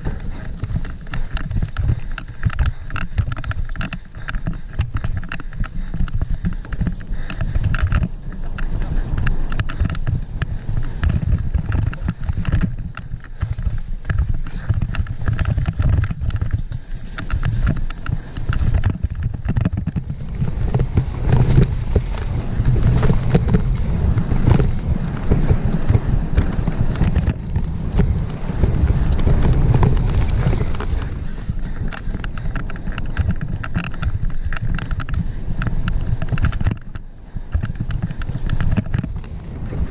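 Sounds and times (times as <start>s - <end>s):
bike rattling and knocking: 0.0s - 39.9s
wind and tyres rumbling: 0.0s - 39.9s.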